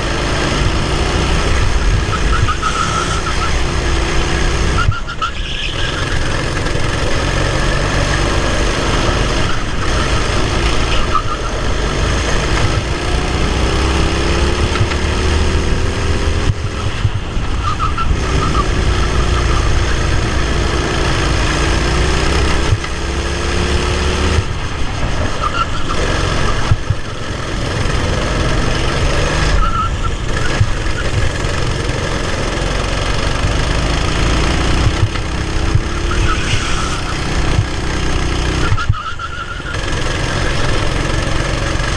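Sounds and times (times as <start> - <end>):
racing kart engine revving: 0.0 - 41.9.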